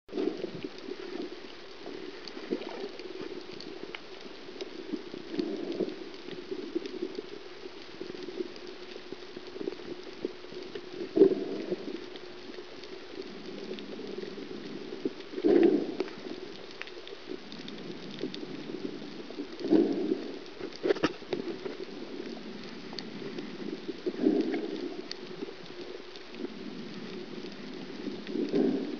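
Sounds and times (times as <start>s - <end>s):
crackle of fine clicks: 0.1s - 28.9s
low muffled underwater rush: 0.1s - 28.9s.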